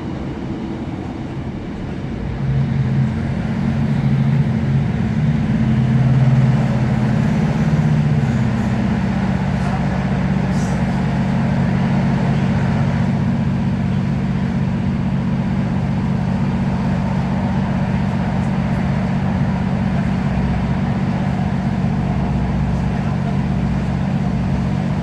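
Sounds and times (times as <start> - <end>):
diesel train engine drone: 0.0 - 25.0
rail running noise: 0.0 - 25.0.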